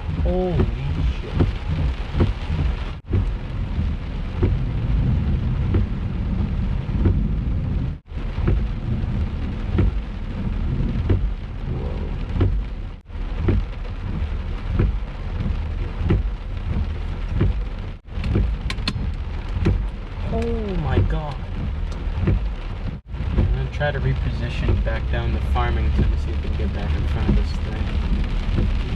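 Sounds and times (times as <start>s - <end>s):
faint ticking: 0.0s - 28.9s
heavy rain pounding: 0.0s - 28.9s
thunder rumbling: 0.0s - 28.9s.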